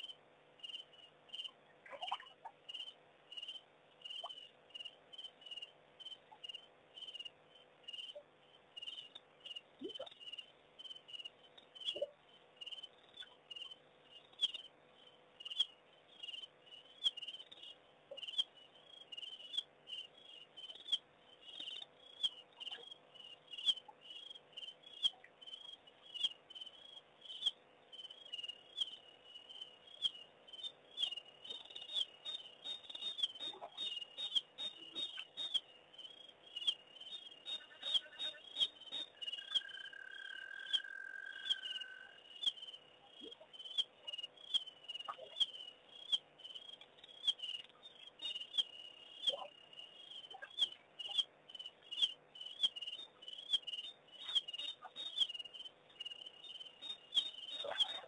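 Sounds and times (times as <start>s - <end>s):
crickets trilling: 2.7s - 58.0s.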